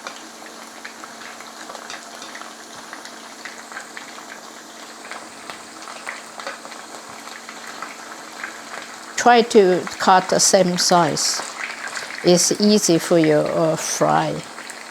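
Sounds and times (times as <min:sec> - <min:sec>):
chicken sizzling in oil: 0:00.0 - 0:14.9
faint steady hum: 0:00.0 - 0:14.9.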